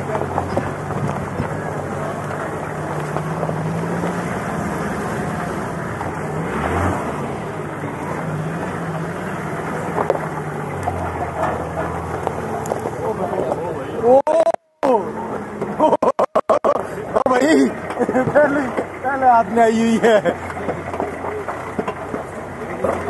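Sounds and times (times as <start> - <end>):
gravel crunching under tyres: 0.0 - 14.2, 16.8 - 23.0
vehicle engine running at low speed: 0.0 - 14.2, 14.9 - 23.0.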